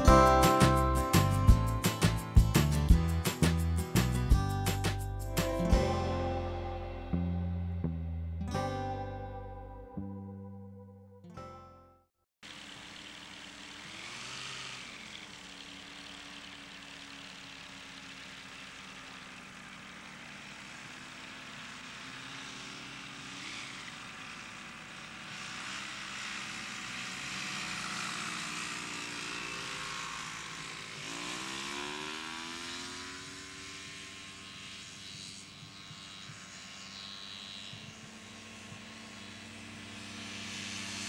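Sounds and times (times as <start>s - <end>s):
small aircraft engine droning: 5.3s - 10.8s, 12.4s - 41.0s.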